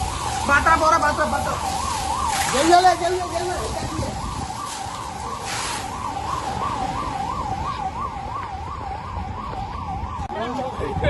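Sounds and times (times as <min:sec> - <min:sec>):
emergency siren warbling: 0:00.0 - 0:11.0.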